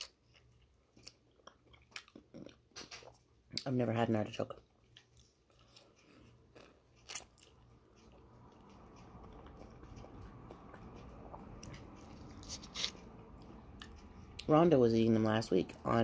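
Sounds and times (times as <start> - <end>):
chewing soft fruit: 0.0 - 3.7, 4.5 - 16.0.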